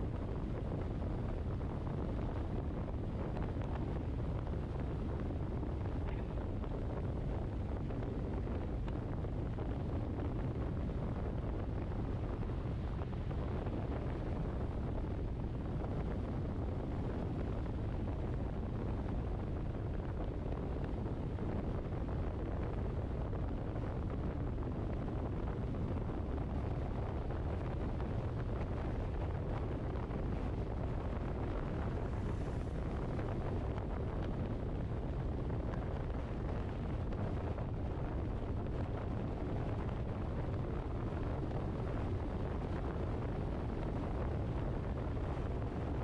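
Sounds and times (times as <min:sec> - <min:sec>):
vehicle road rumble: 0:00.0 - 0:46.0
wind on the microphone: 0:00.0 - 0:46.0.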